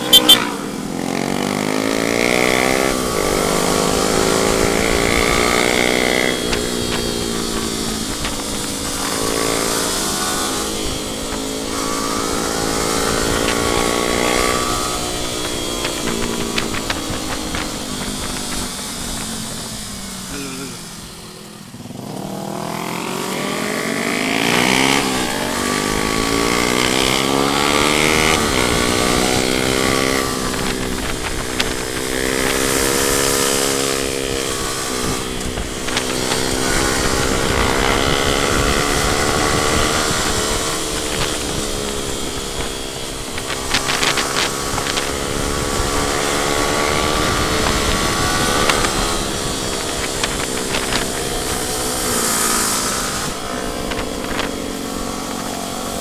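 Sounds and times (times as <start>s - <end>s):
wind noise: 0.0s - 22.2s, 23.2s - 56.0s
motorcycle engine revving: 0.0s - 56.0s.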